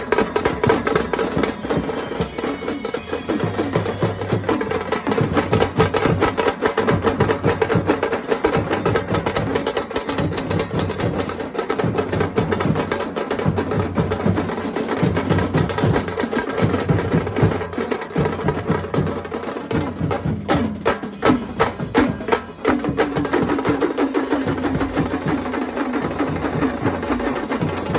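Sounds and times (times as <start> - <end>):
drum troupe playing fast beat: 0.0 - 27.9.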